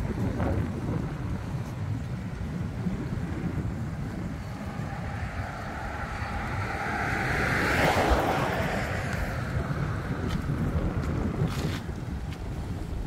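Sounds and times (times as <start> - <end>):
vehicle passing on road: 0.0 - 13.0
wind buffeting microphone: 0.0 - 13.0.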